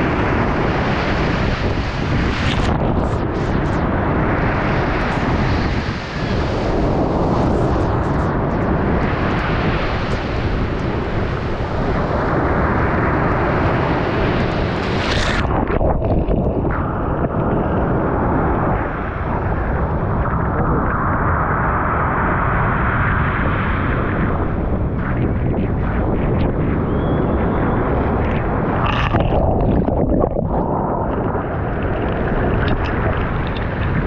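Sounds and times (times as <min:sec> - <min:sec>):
low rumble of waves: 0:00.0 - 0:34.0.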